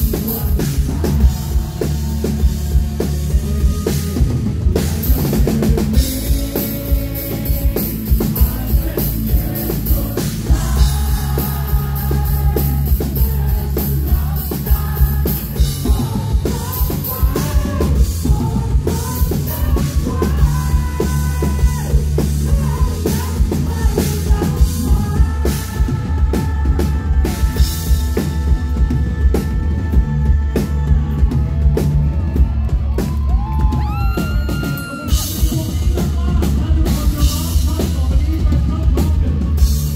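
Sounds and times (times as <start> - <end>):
bass: 0.0 - 39.9
distorted electric guitars: 0.0 - 39.9
drum kit: 0.0 - 39.9
male singer: 0.0 - 39.9.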